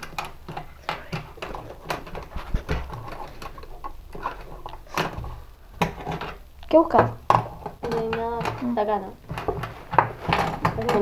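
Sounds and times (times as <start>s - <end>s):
plastic cases tapping on wood: 0.0s - 11.0s.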